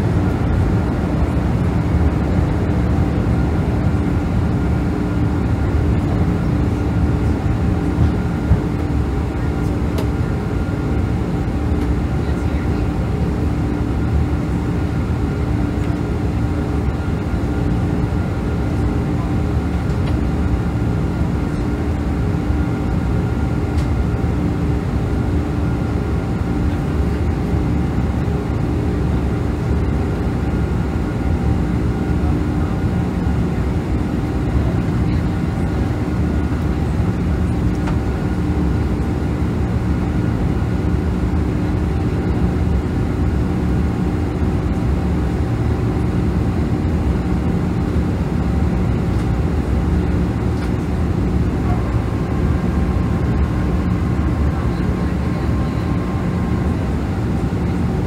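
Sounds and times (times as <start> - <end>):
airliner cabin engine roar: 0.0 - 58.0.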